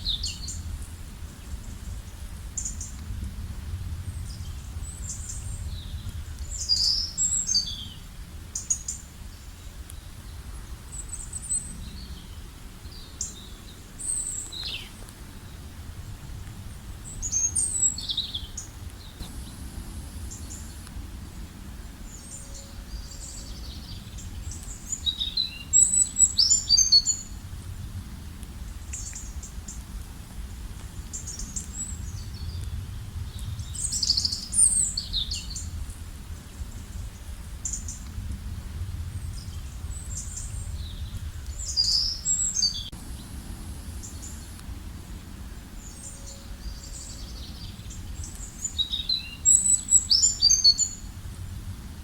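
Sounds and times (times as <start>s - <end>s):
steady low rumble: 0.0s - 8.6s, 9.3s - 48.8s, 50.9s - 52.0s
small birds chirping: 4.0s - 15.7s, 16.7s - 27.4s, 28.7s - 36.0s, 39.1s - 51.2s.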